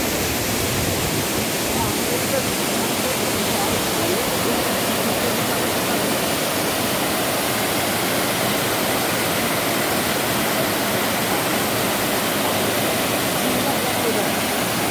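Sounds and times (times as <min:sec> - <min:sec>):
waterfall rushing over rocks: 0:00.0 - 0:14.9.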